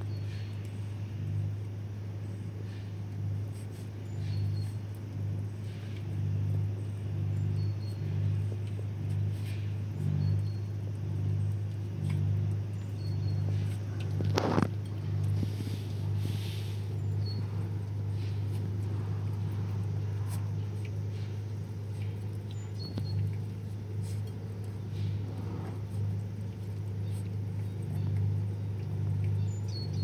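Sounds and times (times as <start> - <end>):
pulsing low machine hum: 0.0 - 30.0.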